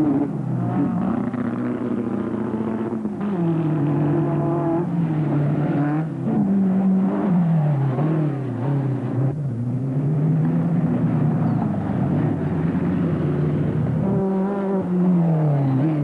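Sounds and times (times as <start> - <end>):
race vehicle engine revving: 0.0 - 16.0.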